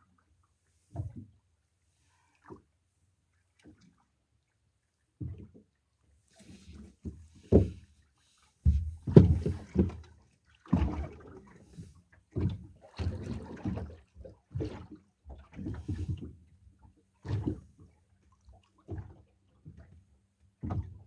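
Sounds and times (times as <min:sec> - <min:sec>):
water lapping against boat hull: 0:00.0 - 0:21.0.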